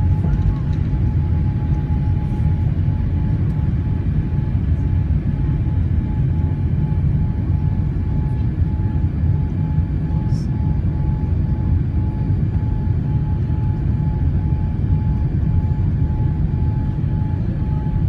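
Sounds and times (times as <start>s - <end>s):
jet engine cabin rumble: 0.0s - 18.0s.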